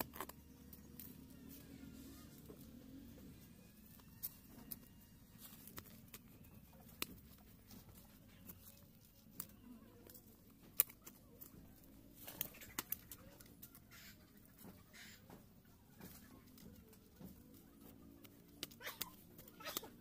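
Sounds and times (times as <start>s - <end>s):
hands scraping dry soil: 0.0s - 20.0s.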